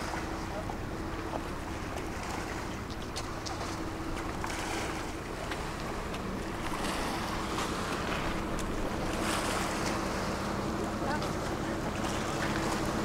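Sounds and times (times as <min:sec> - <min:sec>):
ferry engine drone: 0:00.0 - 0:13.0
water rushing past hull: 0:00.0 - 0:13.0.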